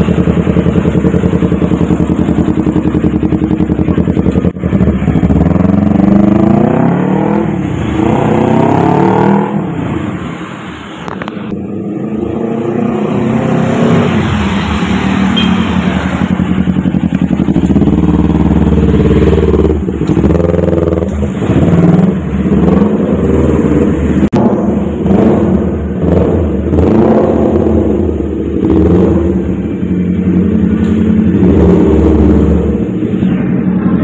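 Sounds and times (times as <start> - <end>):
motorcycle engine revving: 0.0 - 10.3, 11.1 - 34.0.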